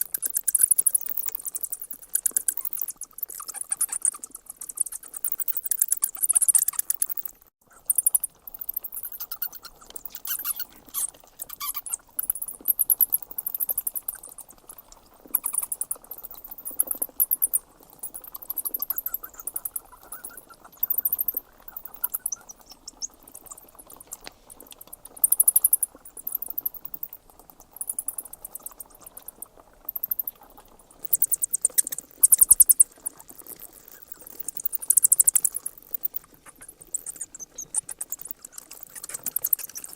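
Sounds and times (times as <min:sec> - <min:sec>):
bats squeaking: 0:00.0 - 0:39.9.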